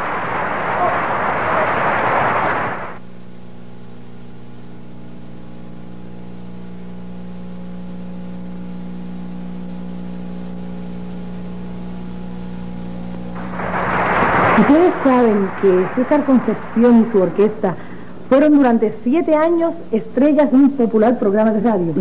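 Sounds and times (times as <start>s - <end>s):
electrical hum: 0.0s - 22.0s
loud static hiss: 0.0s - 22.0s.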